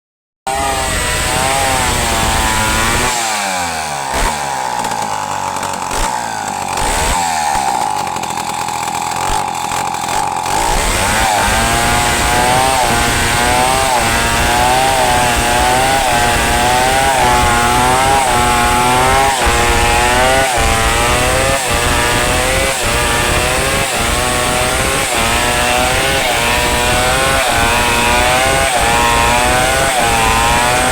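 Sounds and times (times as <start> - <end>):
chainsaw cutting wood: 0.5 - 30.9.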